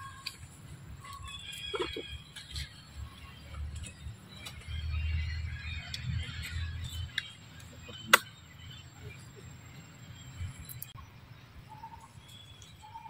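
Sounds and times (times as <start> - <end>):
faint bird chirps: 1.0 - 13.0.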